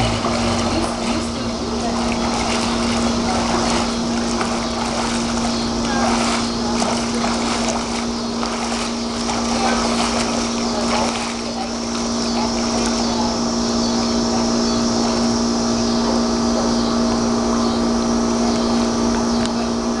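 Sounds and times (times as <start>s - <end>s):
swimmer splashing in pool: 0.0s - 17.4s
steady mechanical hum: 0.0s - 20.0s.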